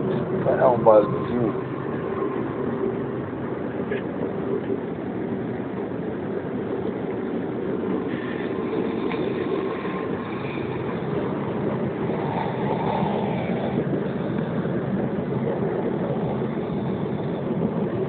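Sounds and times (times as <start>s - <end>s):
rumble of moving train: 0.0s - 18.0s.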